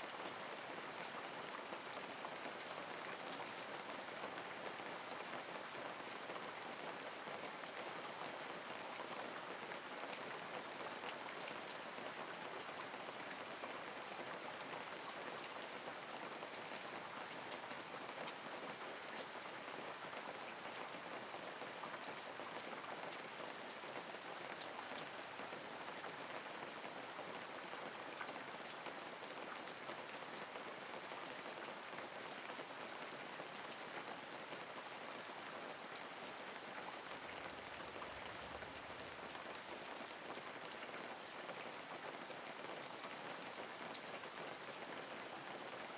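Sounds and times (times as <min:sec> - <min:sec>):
light rain pattering on leaves: 0:00.0 - 0:45.9.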